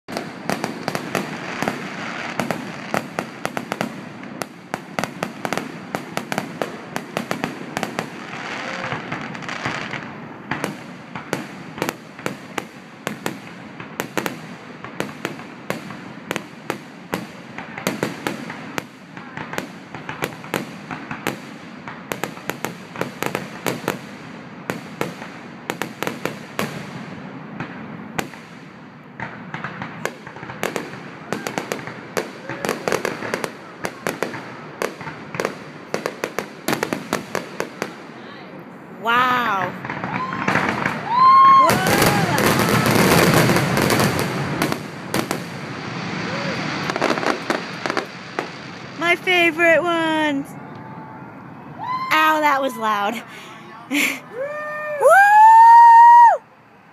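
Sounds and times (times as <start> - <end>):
fireworks bursting and crackling: 0.0 - 56.5.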